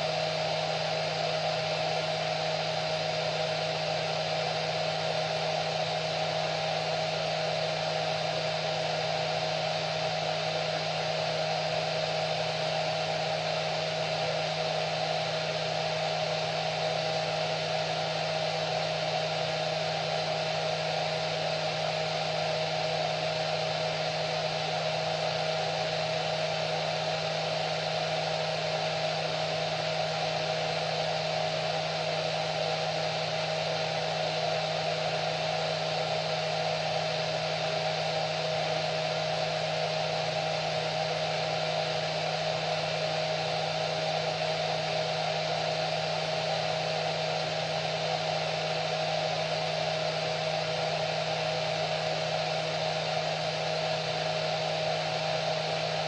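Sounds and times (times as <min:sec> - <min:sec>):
hair dryer running: 0:03.0 - 0:56.0.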